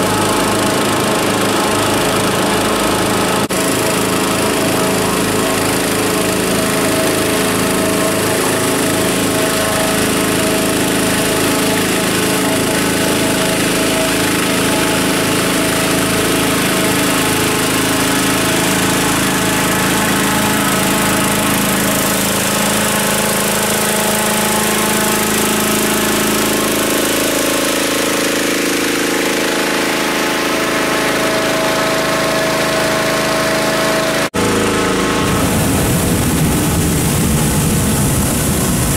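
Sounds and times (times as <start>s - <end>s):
engine-driven inflator fan running: 0.0s - 38.9s.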